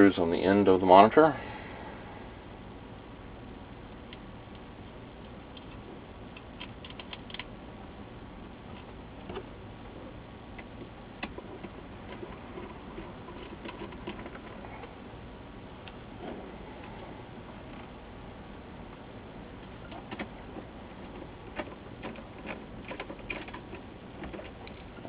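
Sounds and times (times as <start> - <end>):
faint room hiss: 0.0 - 25.0.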